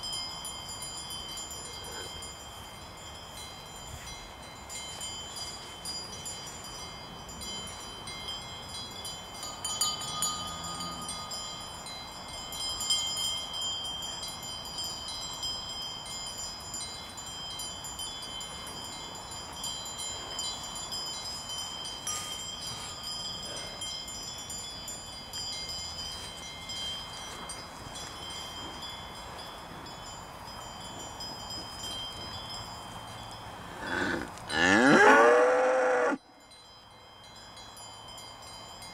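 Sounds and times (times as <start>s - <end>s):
cowbells clanking: 0.0s - 35.2s, 36.3s - 38.9s.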